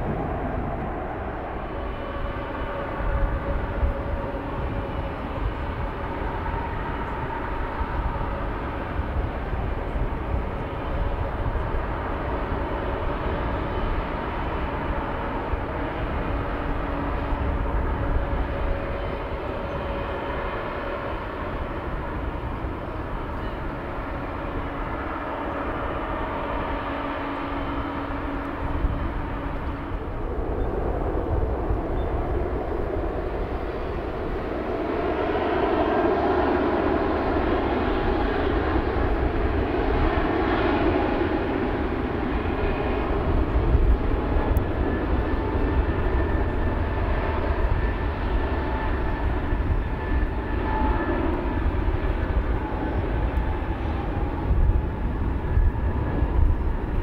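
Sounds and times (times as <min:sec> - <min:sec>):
faint whining tones: 0:00.0 - 0:57.0
jet engines rumbling: 0:00.0 - 0:57.0.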